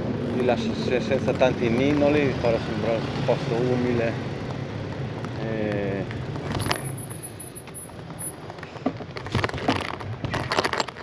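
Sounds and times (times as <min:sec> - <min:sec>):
bicycle tyres rumbling: 0:00.0 - 0:11.0
sharp clicks and rattles: 0:00.0 - 0:11.0.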